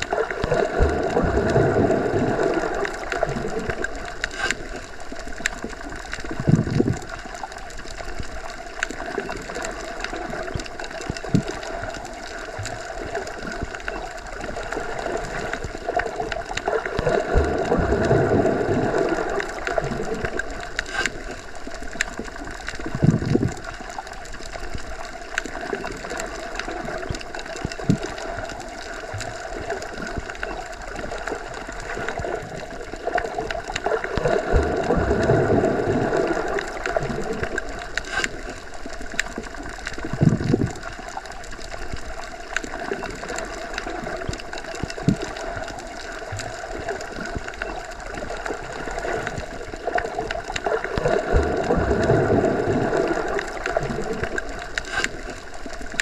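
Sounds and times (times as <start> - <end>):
muffled underwater rush of water: 0.0 - 56.0.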